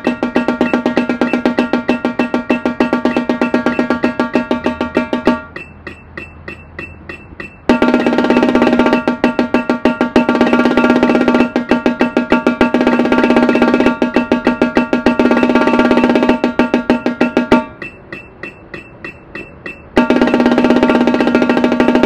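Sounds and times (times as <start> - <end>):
marching tenor drum rolls: 0.0 - 5.6, 7.6 - 17.8, 19.9 - 22.0.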